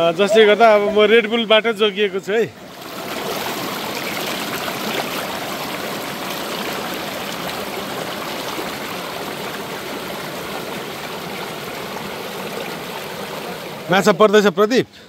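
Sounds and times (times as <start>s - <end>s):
waterfall rushing into pool: 0.0s - 14.8s.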